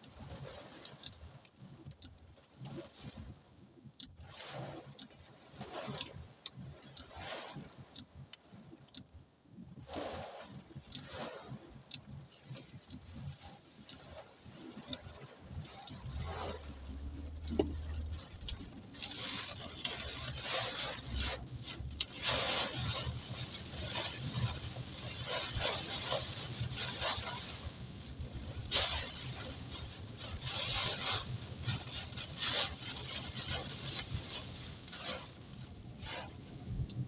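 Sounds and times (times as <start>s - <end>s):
heavy rain lashing a car: 0.0s - 3.3s, 4.1s - 9.0s, 9.8s - 37.0s
engine and tyre rumble: 0.0s - 37.0s.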